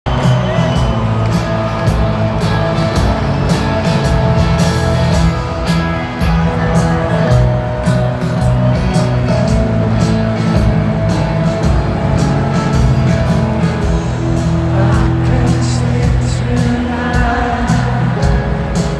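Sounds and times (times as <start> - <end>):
amplified guitars: 0.1 - 18.9
steady drum beat: 0.1 - 18.9.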